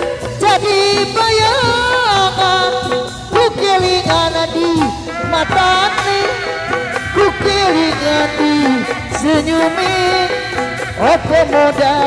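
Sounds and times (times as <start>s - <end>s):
drums: 0.0s - 12.0s
wailing reed pipe melody: 2.1s - 12.0s.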